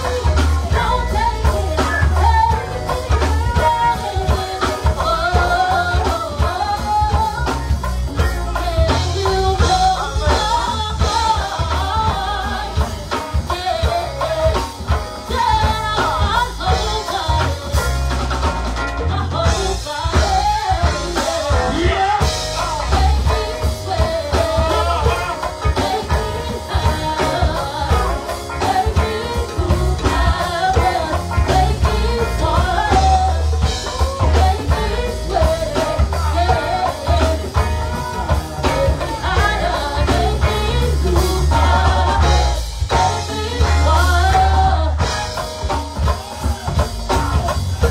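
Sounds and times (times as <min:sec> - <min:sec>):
drum kit and conga beat: 0:00.0 - 0:47.9
heavy bass: 0:00.0 - 0:47.9
people singing: 0:00.0 - 0:47.9.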